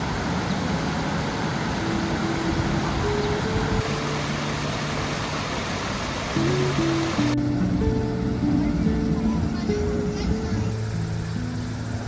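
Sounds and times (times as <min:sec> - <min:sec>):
flowing river water: 0:00.0 - 0:12.0
soft sustained music notes: 0:01.7 - 0:12.0.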